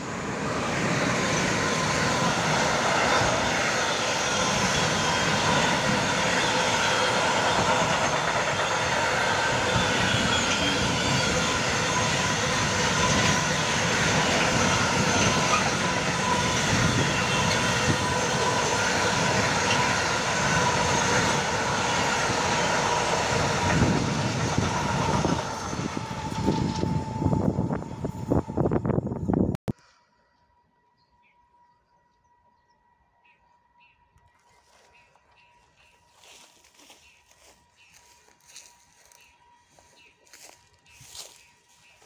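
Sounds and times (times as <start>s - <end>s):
train wheels on rails: 0.0s - 29.5s, 34.2s - 42.0s.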